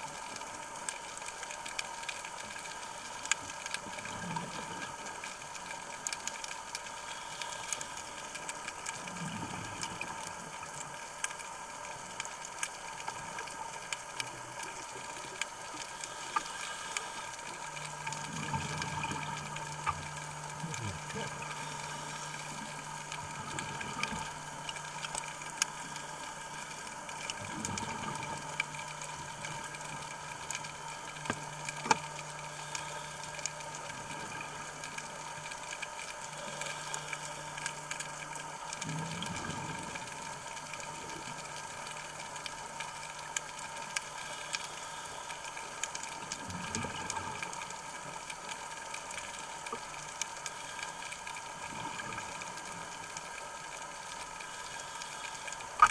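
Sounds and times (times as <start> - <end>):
scuba regulator bubbles: 0.0 - 55.9
underwater hum: 0.0 - 55.9.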